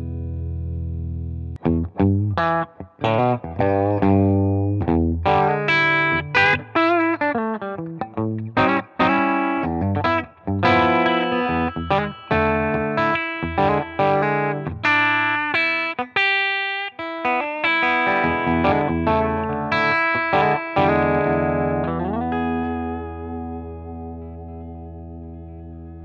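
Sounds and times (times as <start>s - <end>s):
electric guitar chords and notes: 0.0s - 26.0s.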